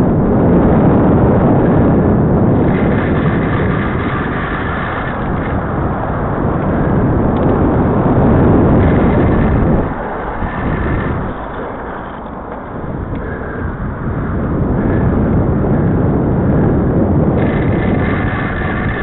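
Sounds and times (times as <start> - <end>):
bicycle rumbling over pavement: 0.0 - 19.0
wind rushing over microphone: 0.0 - 19.0.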